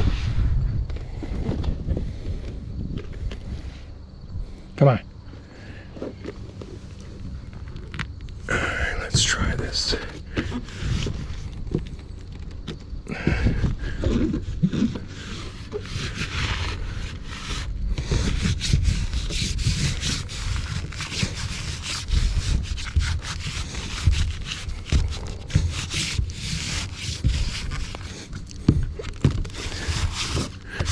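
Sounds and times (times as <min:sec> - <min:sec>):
hand scraping rough surface: 0:04.8 - 0:30.9.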